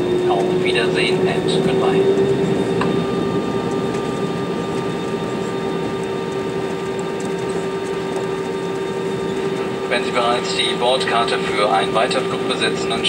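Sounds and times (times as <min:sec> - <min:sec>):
cabin air flow: 0:00.0 - 0:13.0
jet engines idling: 0:00.0 - 0:13.0
steady hum: 0:00.0 - 0:13.0.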